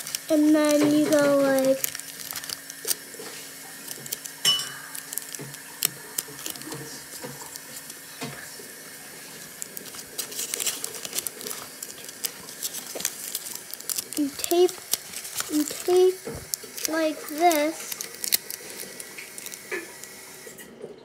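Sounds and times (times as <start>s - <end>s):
sticky tape pulled and torn: 0.0s - 3.1s, 3.8s - 8.0s, 9.2s - 20.4s
tape dispenser clicks: 0.0s - 3.2s, 3.8s - 8.0s, 9.5s - 20.5s
paper crinkling and rustling: 0.0s - 20.6s.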